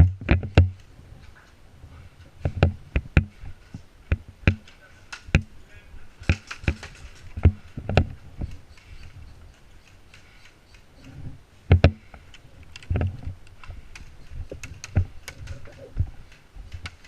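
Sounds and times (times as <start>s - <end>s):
sharp knocks and clicks with thuds: 0.0s - 1.5s, 2.4s - 5.5s, 6.2s - 17.0s.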